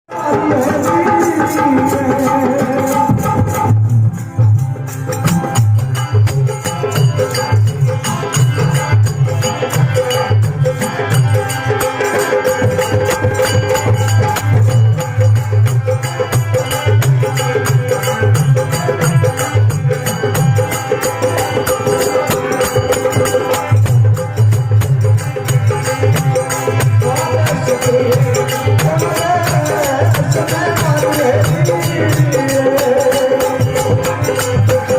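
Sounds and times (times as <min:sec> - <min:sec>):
dholak drum rhythm: 0:00.1 - 0:34.9
jingling percussion: 0:00.1 - 0:34.9.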